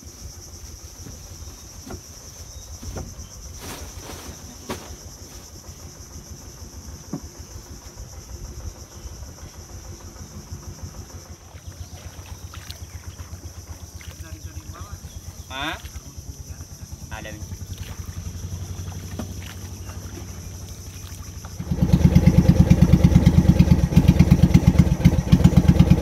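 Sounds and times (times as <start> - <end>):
high-pitched insect chorus: 0.0 - 26.0
small boat engine puttering: 4.5 - 26.0.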